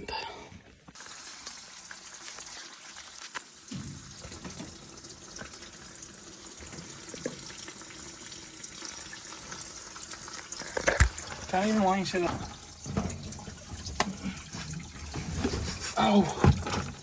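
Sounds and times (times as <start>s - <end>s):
water running into bucket: 0.9s - 17.0s.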